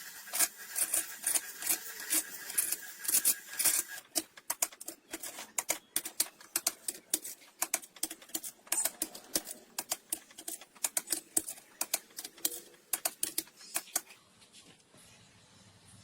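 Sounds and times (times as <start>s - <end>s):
rapid irregular clicking: 0.0s - 14.2s.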